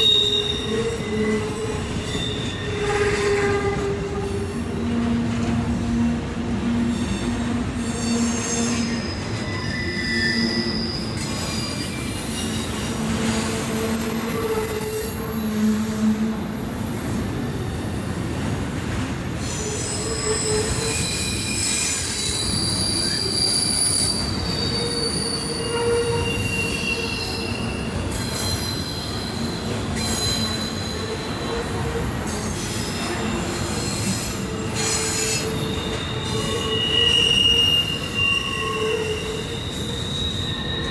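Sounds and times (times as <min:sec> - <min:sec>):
freight train rumble: 0:00.0 - 0:40.9
train wheels squealing on rails: 0:00.0 - 0:40.9.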